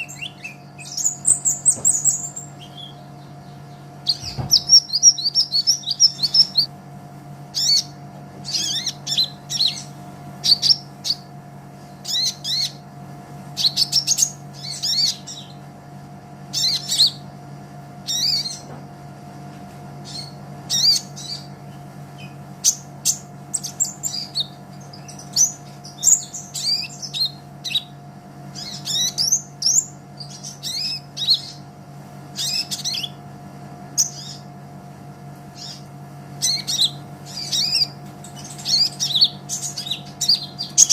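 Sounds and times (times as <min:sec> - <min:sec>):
bird singing high chirps: 0:00.0 - 0:06.7, 0:07.6 - 0:12.8, 0:13.6 - 0:15.6, 0:16.5 - 0:17.2, 0:18.0 - 0:18.7, 0:20.0 - 0:21.6, 0:22.2 - 0:31.7, 0:32.3 - 0:33.2, 0:34.0 - 0:34.5, 0:35.6 - 0:40.9.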